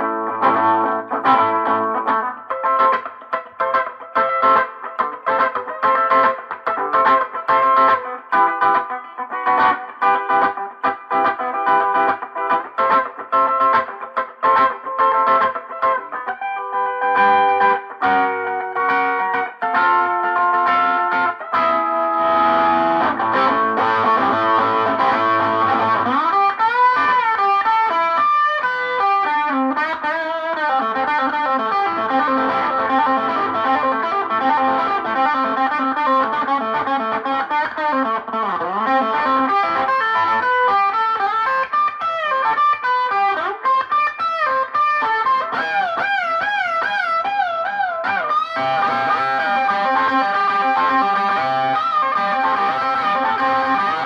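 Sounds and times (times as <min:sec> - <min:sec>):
overdriven electric guitar: 0:00.0 - 0:54.0.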